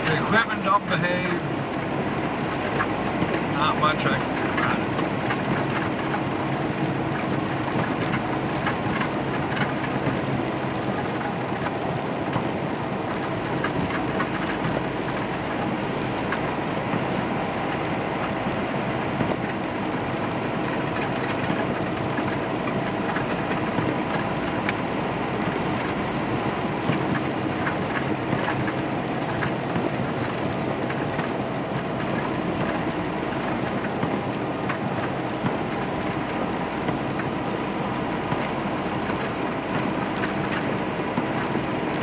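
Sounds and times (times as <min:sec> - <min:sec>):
diesel engine running: 0:00.0 - 0:42.0
tyres on wet pavement: 0:00.0 - 0:42.0.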